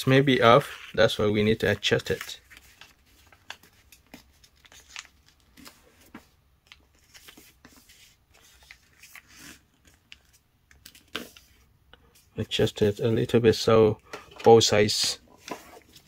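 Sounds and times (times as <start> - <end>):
paper rustling: 0.1 - 13.4, 14.4 - 16.0.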